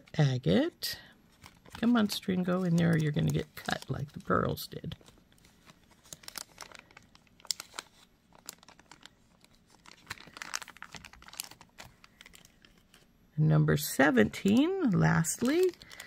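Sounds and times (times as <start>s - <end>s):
plastic bag crinkling: 0.1s - 13.2s, 13.8s - 16.0s.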